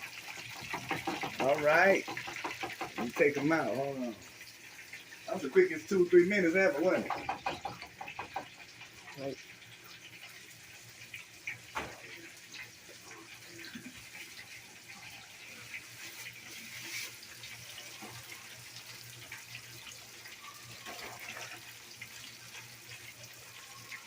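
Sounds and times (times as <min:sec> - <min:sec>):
shrimp deep-frying sizzle: 0:00.0 - 0:24.0.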